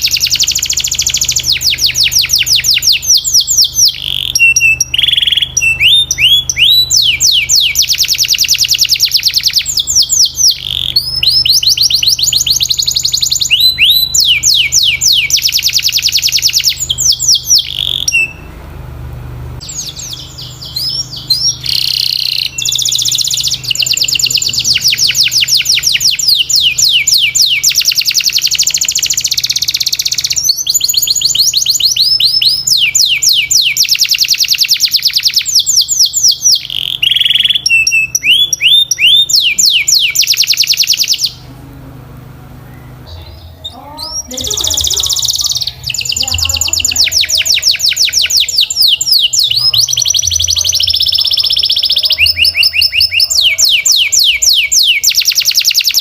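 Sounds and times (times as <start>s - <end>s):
canary singing trills: 0.0s - 18.6s, 19.6s - 56.0s.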